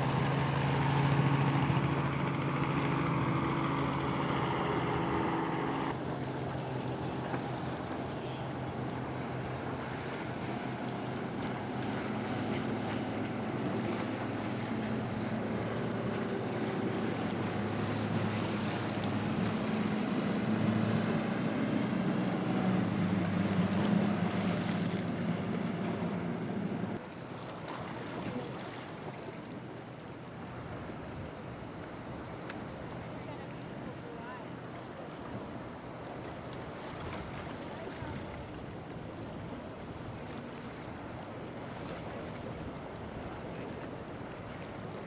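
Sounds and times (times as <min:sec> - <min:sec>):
boat engine drone: 0:00.0 - 0:45.0
wind: 0:00.0 - 0:45.0.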